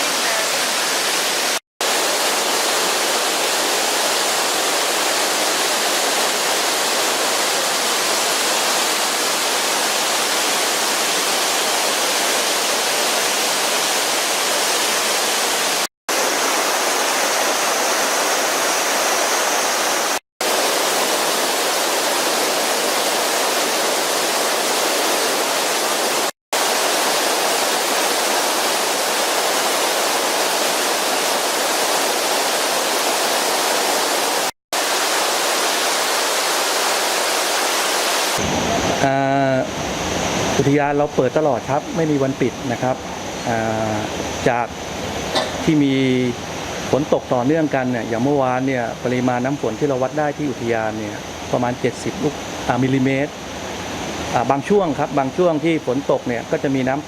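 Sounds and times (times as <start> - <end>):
waterfall and rushing stream: 0.0 - 57.0.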